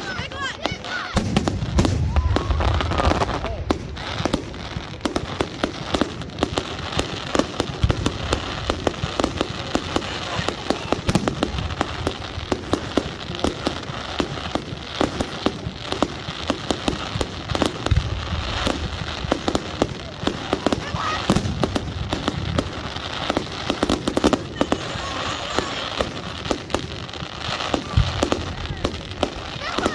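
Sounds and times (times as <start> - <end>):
deep fireworks booms: 0.0 - 29.9
fireworks crackles and bangs: 0.0 - 29.9.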